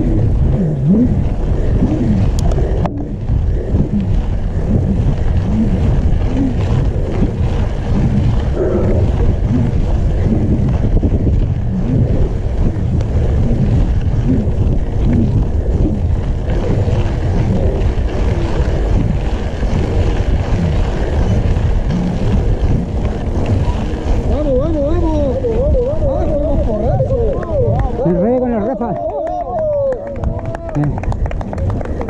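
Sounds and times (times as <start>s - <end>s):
tyres on gravel: 0.0s - 32.0s
wind buffeting microphone: 0.0s - 32.0s.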